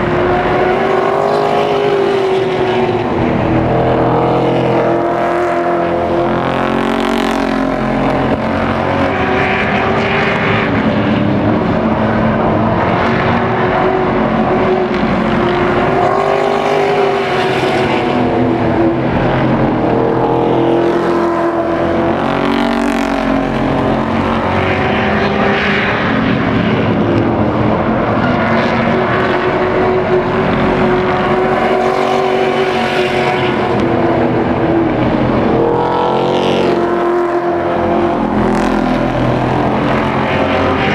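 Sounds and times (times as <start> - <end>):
race truck engines passing: 0.0 - 40.9.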